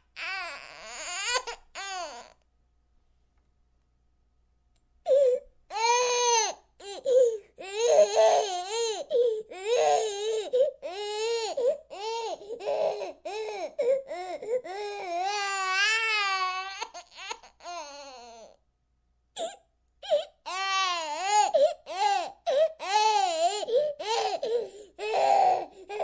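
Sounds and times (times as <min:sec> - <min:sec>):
infant crying: 0:00.0 - 0:02.4, 0:05.1 - 0:18.6, 0:19.4 - 0:26.0.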